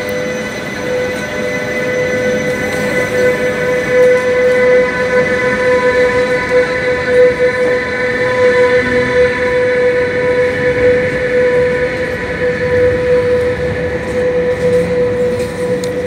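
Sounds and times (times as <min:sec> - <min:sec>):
rumble of train wheels: 0:00.0 - 0:16.0
train high whine: 0:00.0 - 0:16.0.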